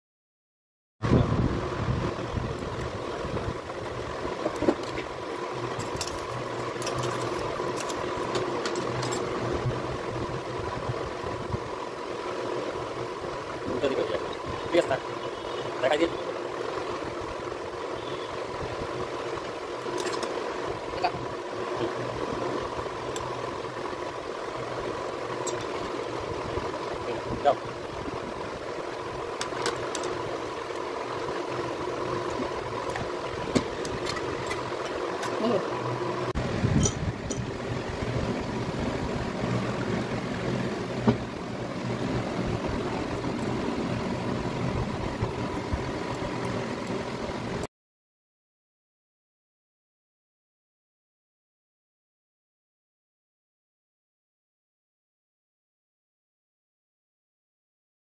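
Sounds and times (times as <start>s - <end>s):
steady background hum: 1.0s - 47.7s.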